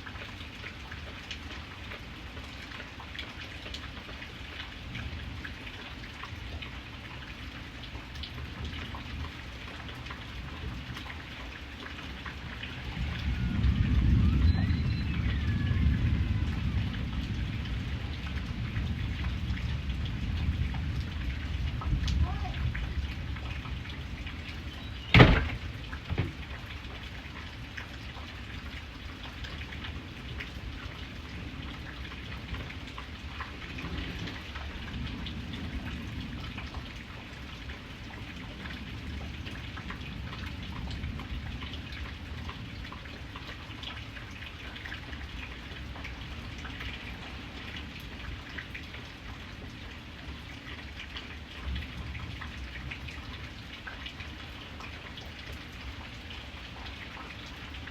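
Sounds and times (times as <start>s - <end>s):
rain pattering: 0.0s - 57.9s.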